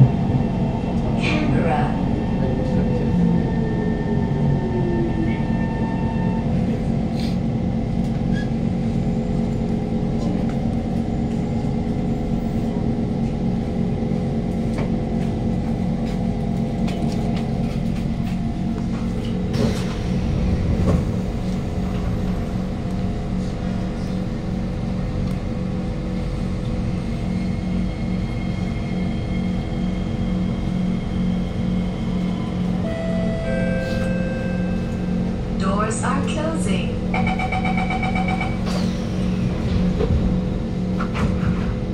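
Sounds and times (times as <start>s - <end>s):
train car hum and rumble: 0.0s - 41.9s.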